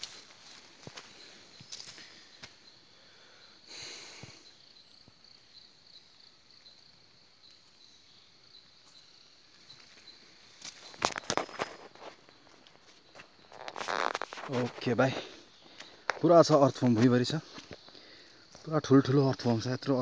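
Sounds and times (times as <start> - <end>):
insect trilling: 0.0 - 20.0.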